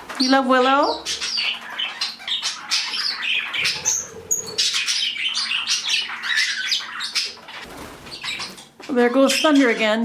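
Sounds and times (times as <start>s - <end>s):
birds chattering and chirping: 0.0s - 10.0s.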